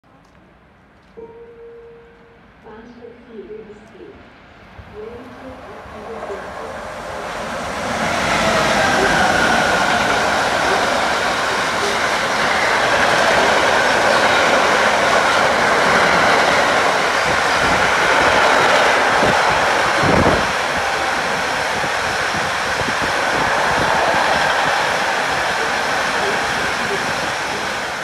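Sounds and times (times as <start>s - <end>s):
steel wheels rolling on rail: 5.2s - 28.0s.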